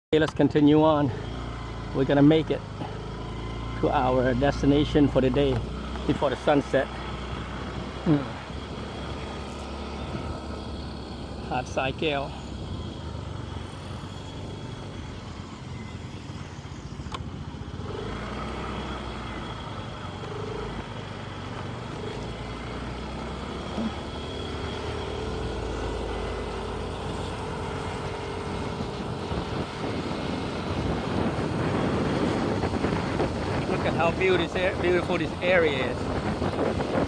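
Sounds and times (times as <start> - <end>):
motorbike engine and wind noise: 0.2 - 37.0.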